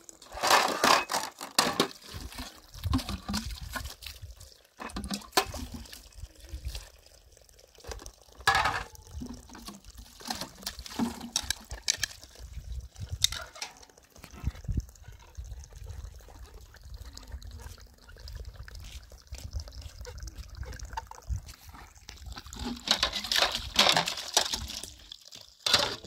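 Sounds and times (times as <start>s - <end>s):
water splashing and dripping: 0.0s - 26.0s.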